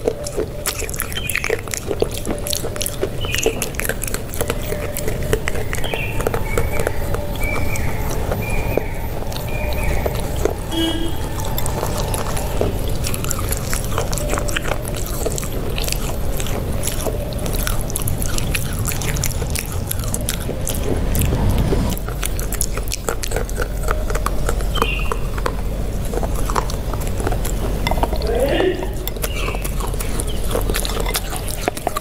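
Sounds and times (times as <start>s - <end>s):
crunchy chewing: 0.0s - 32.0s
steady low hum: 0.0s - 32.0s
wet mouth clicks: 0.0s - 32.0s.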